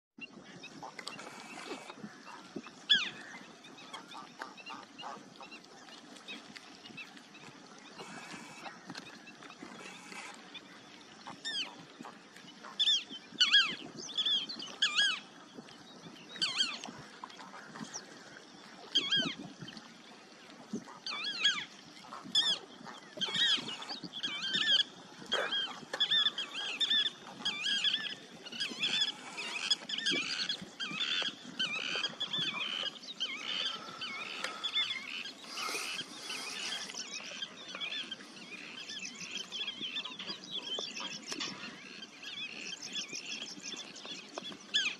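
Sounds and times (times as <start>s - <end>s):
wetland birds calling: 0.2s - 44.9s.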